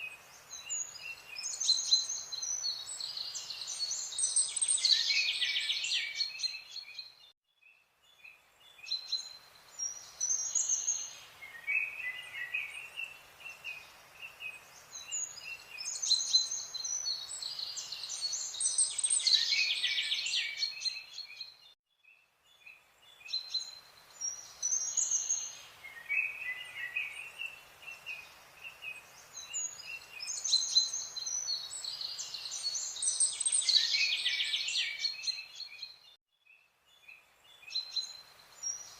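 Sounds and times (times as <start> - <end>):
faint hiss: 0.0 - 7.1, 8.0 - 21.6, 22.4 - 35.9, 36.8 - 38.9
birds chirping and singing: 0.4 - 7.3, 8.7 - 21.7, 22.5 - 36.1.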